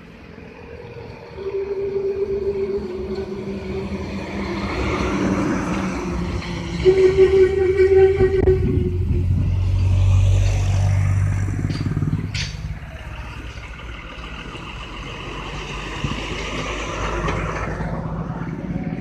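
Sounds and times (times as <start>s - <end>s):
car engine passing: 0.0s - 19.0s
motorcycle engine approaching: 0.0s - 19.0s
truck engine working: 0.0s - 19.0s.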